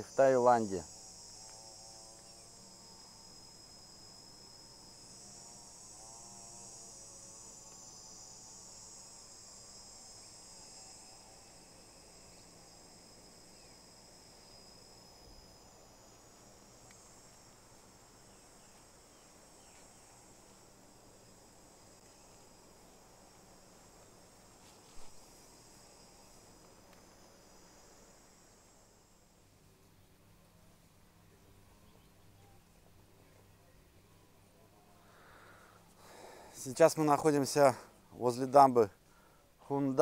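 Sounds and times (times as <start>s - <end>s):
insect chorus buzzing: 0.0s - 40.0s.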